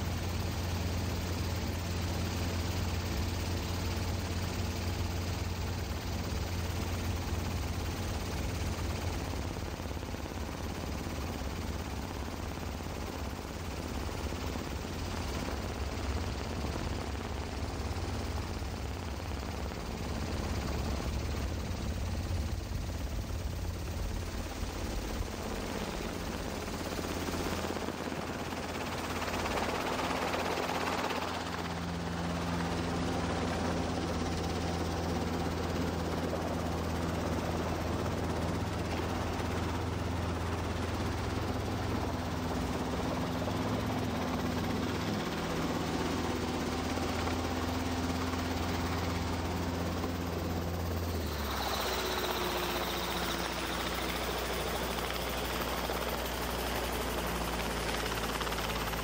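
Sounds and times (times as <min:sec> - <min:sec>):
helicopter engine and rotors: 0:00.0 - 0:59.0.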